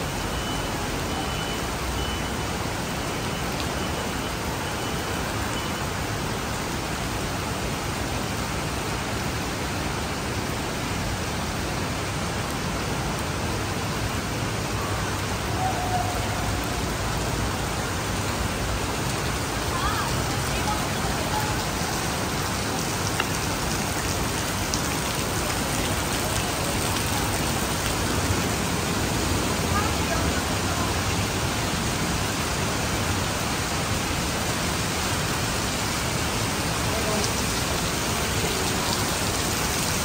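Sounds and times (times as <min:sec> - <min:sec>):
heavy rain on pavement: 0:00.0 - 0:40.0.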